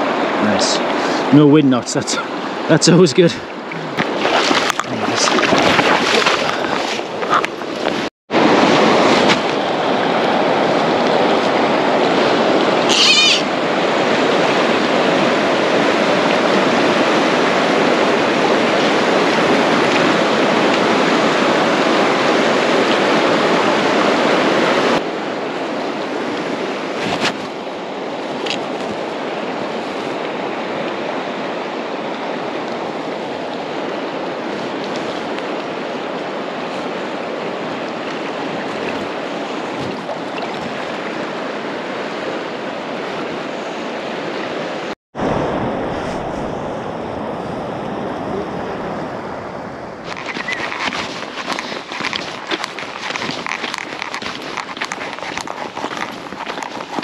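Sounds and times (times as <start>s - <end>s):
river water rushing over stones: 0.0s - 46.3s, 49.9s - 57.0s.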